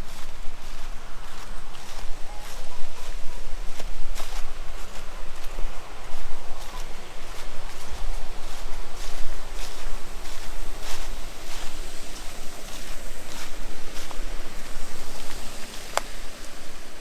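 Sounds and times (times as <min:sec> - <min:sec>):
footsteps crunching on forest trail: 0:00.0 - 0:17.0.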